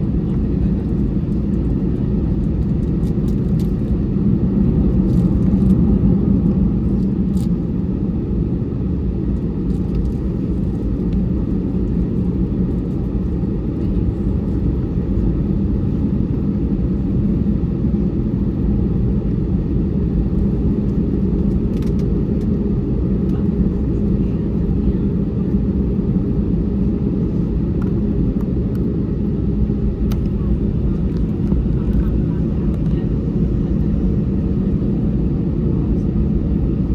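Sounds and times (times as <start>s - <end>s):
airplane cabin rumble: 0.0s - 36.9s.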